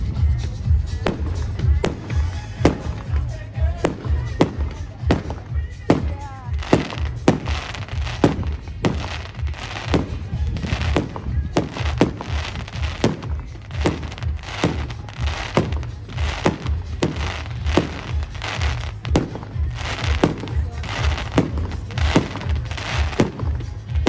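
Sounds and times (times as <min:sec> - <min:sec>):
fireworks crackling: 0:00.0 - 0:24.0
music with bass beat: 0:00.0 - 0:24.0
fireworks bangs: 0:00.8 - 0:24.0.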